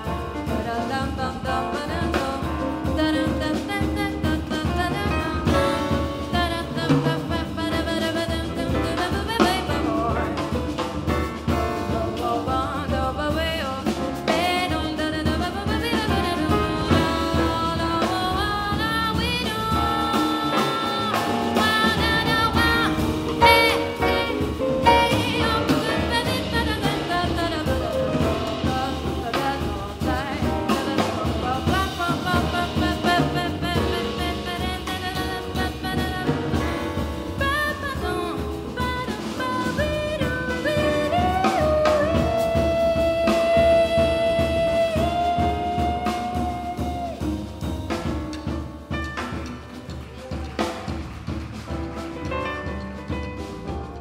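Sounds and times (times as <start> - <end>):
woman singing jazz: 0.0 - 51.0
jazz band with guitar and bass: 0.0 - 54.0.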